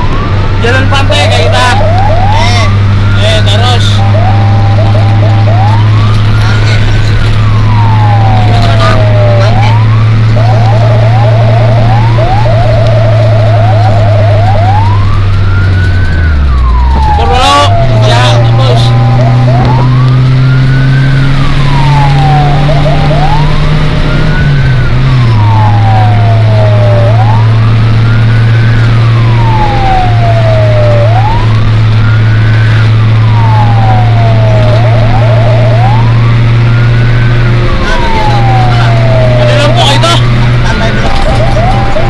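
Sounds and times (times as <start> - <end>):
low engine hum: 0.0 - 0.6, 1.3 - 42.0
siren wailing: 0.0 - 42.0.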